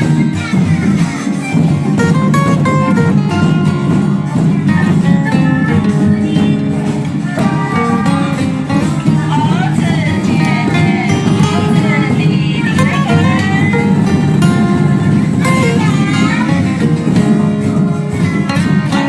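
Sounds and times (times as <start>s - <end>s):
plucked acoustic guitar music: 0.0s - 19.0s.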